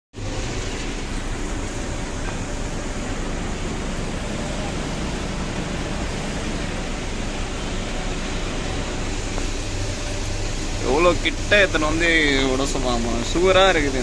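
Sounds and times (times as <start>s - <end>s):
truck engine rumble and hiss: 0.2s - 14.0s.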